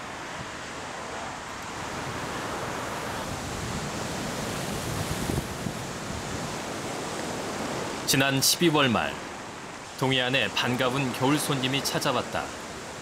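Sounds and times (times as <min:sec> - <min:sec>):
ocean waves washing in: 0:00.0 - 0:13.0.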